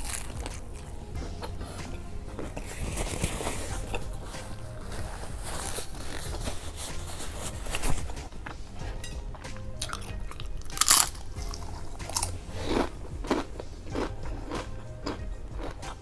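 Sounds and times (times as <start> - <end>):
tortilla chips crunching: 0.0 - 1.6, 2.3 - 8.3, 9.8 - 16.0.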